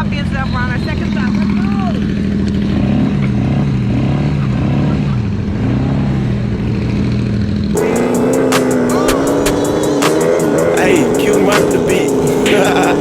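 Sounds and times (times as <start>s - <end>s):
atv engines running: 0.0s - 13.0s.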